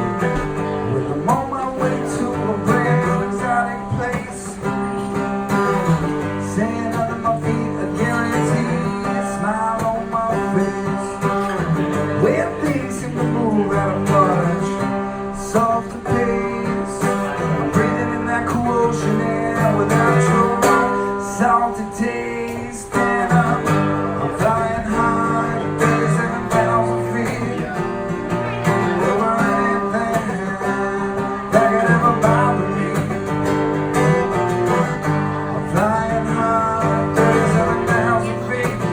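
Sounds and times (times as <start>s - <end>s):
acoustic guitar strummed and picked: 0.0s - 38.9s.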